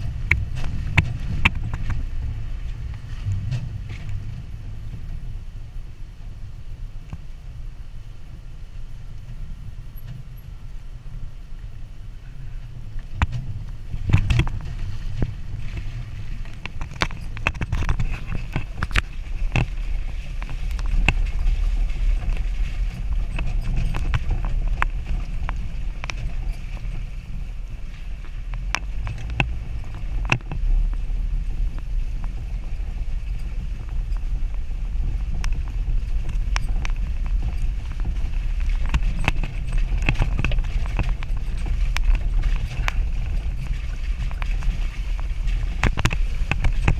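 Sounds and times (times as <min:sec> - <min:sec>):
vehicle knocks and rattles: 0:00.0 - 0:05.8, 0:12.6 - 0:46.9
engine rumble: 0:00.0 - 0:46.9.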